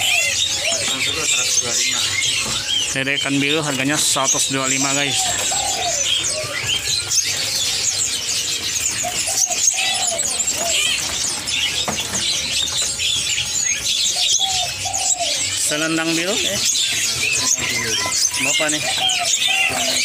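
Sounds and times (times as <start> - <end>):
louder lower bird calls: 0.0 - 20.0
songbirds chirping and squeaking: 0.0 - 20.0.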